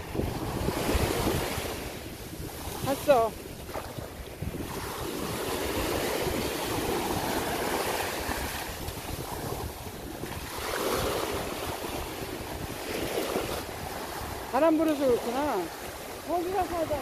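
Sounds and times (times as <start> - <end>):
sea waves breaking: 0.0 - 17.0
wind buffeting the microphone: 0.0 - 17.0.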